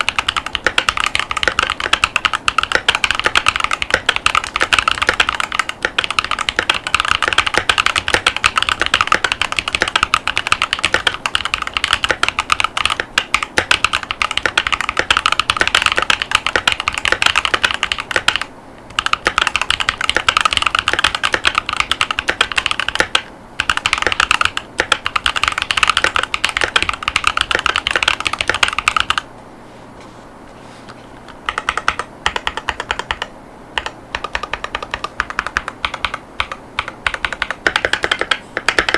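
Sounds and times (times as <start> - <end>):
mechanical keyboard typing: 0.0 - 29.3, 31.3 - 38.9.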